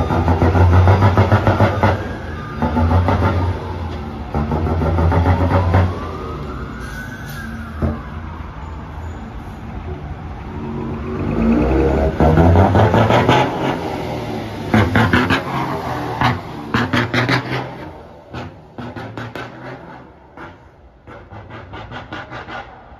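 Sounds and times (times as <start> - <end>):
truck engine revving: 0.0 - 6.5, 10.4 - 22.9.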